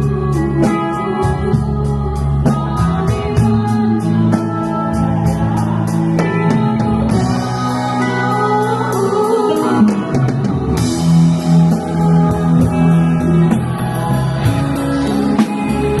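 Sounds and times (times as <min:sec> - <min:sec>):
live rock band playing: 0:00.0 - 0:16.0
steady drum beat: 0:00.0 - 0:16.0.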